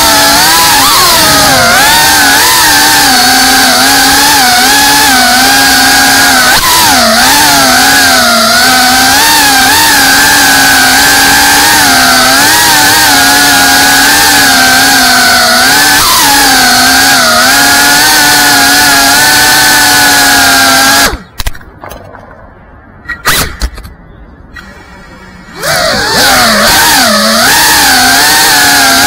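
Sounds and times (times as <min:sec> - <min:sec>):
quadcopter motors whining: 0:00.0 - 0:21.4, 0:24.5 - 0:29.0.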